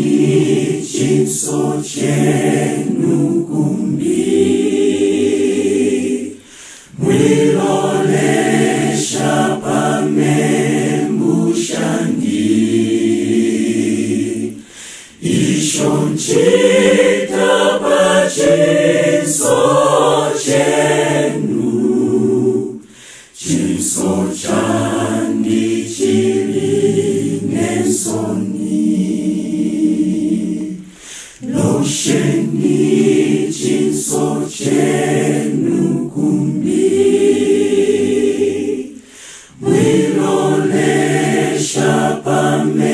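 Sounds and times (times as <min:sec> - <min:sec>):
choir singing a cappella: 0:00.0 - 0:42.9.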